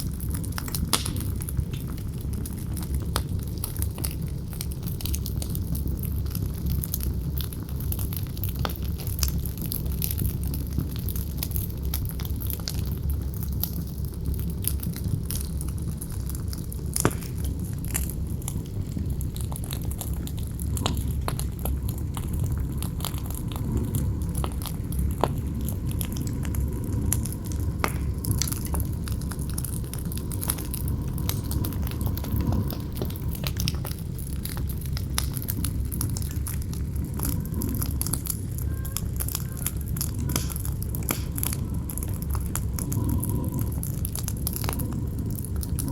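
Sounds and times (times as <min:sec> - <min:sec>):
campfire crackling and popping: 0:00.0 - 0:45.9
wind rumbling: 0:00.0 - 0:45.9.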